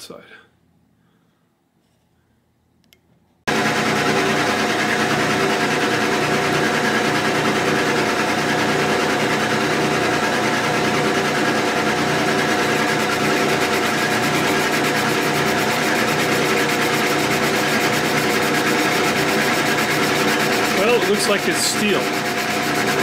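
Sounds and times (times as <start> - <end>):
metal lathe humming: 3.5 - 23.0.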